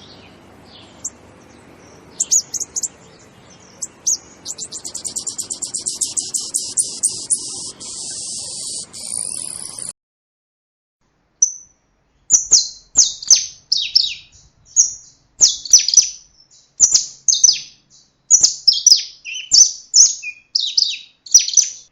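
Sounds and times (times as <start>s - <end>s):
bird chirping: 0.0s - 10.0s, 11.4s - 21.9s.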